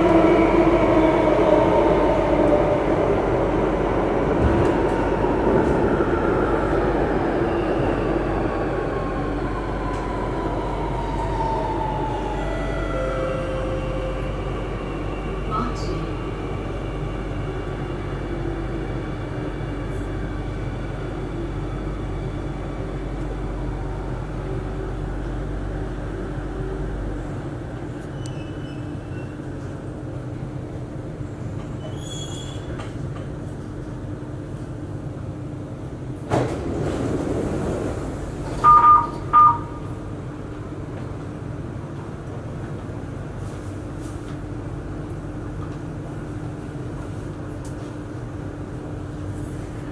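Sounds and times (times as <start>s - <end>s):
train rumble and hum: 0.0s - 49.9s.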